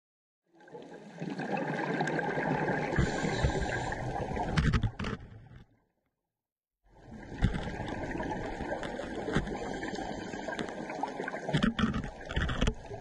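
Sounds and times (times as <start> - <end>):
rush of moving water underwater: 0.5 - 5.7, 6.9 - 13.0.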